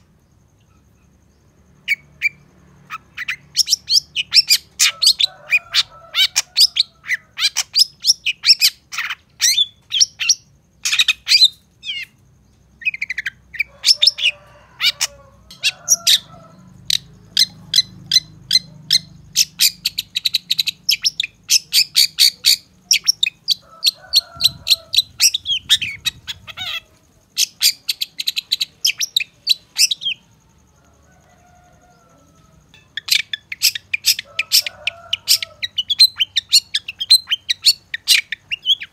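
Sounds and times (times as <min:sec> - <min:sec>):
bird high chattering song: 0:01.8 - 0:30.3, 0:32.3 - 0:38.9.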